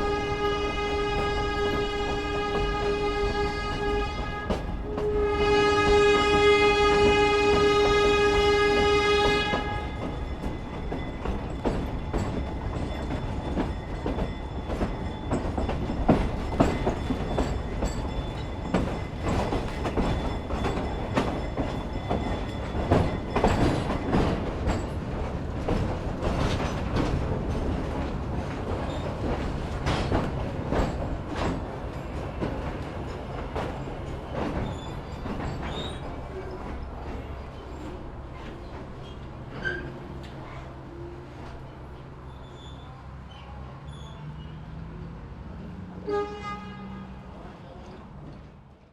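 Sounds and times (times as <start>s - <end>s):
wheels clacking over rail joints: 0.0s - 42.7s
train rumbling on track: 0.0s - 48.9s.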